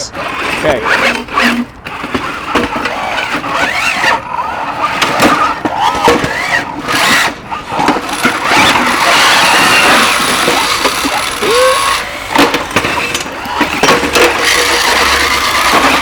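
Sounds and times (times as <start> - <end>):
electric motors whining: 0.0 - 16.0
robots squealing and knocking: 0.0 - 16.0.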